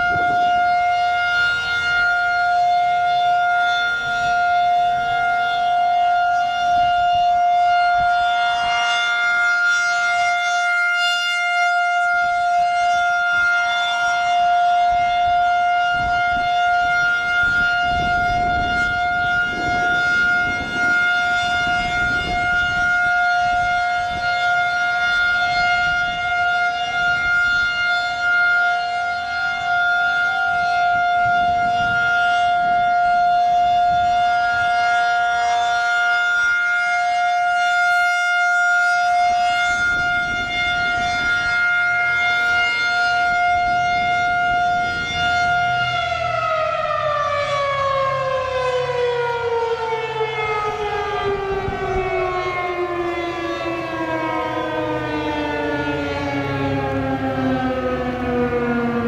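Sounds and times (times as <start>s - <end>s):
rotating warning siren: 0.0s - 59.0s.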